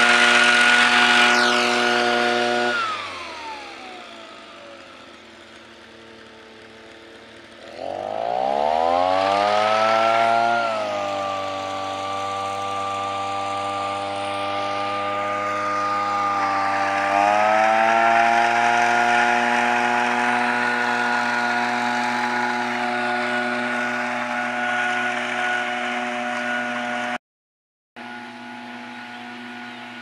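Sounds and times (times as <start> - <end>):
small engine running and revving: 0.0 - 27.2, 28.0 - 30.0.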